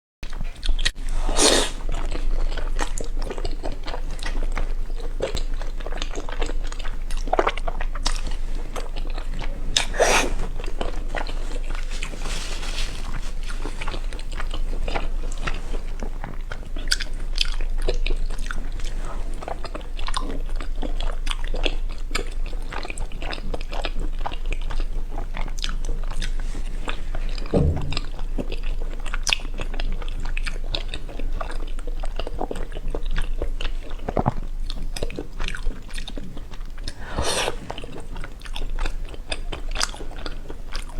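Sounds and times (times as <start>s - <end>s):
person chewing crunchy food: 0.3s - 40.9s.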